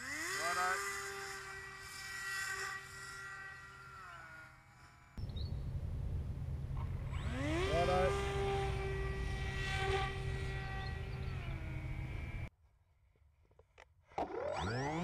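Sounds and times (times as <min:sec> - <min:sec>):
electric motor propeller whine: 0:00.0 - 0:12.5, 0:14.2 - 0:15.0.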